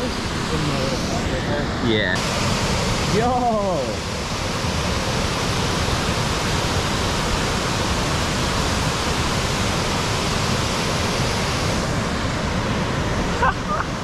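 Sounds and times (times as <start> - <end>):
fast-flowing water rushing: 0.0 - 14.0.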